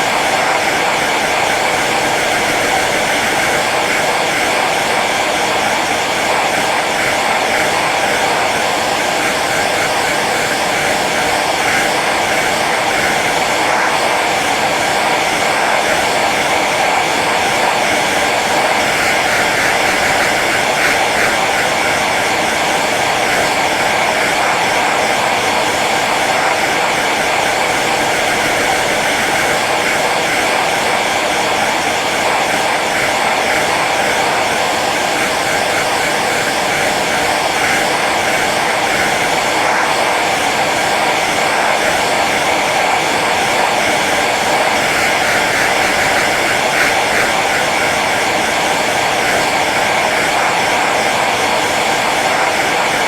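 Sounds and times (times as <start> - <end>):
hair dryer blowing air: 0.0 - 53.0
hair dryer motor hum: 0.0 - 53.0.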